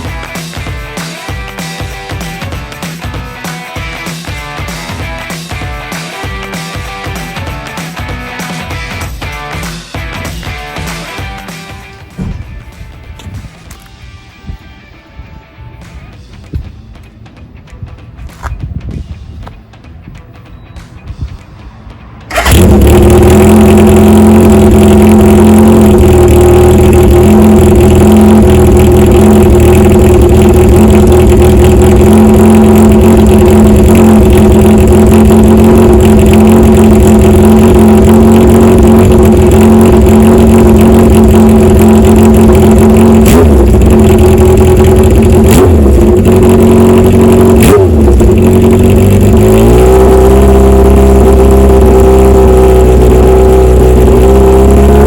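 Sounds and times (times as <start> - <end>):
motorcycle engine exhaust note: 0.0 - 14.8, 22.3 - 55.0.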